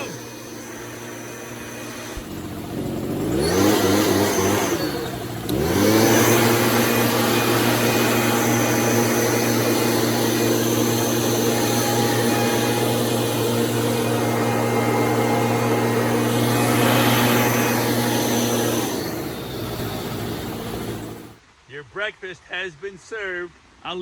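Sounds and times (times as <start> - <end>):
blower engine revving: 0.0 - 21.4.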